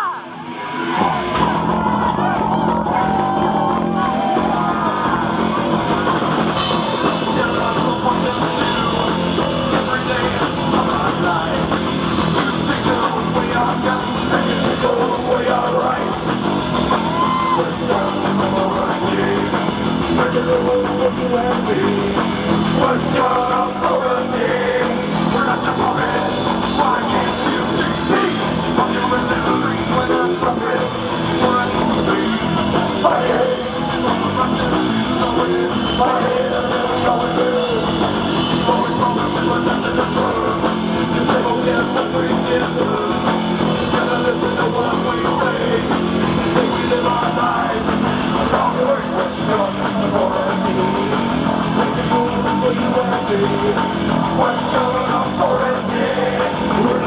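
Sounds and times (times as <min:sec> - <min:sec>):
electric guitars: 0:00.0 - 0:57.0
person singing: 0:00.0 - 0:57.0
drum kit: 0:00.7 - 0:57.0.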